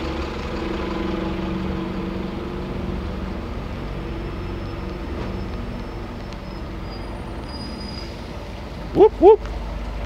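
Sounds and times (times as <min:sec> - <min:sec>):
road noise hiss: 0:00.0 - 0:10.0
vehicle engine humming: 0:00.0 - 0:10.0.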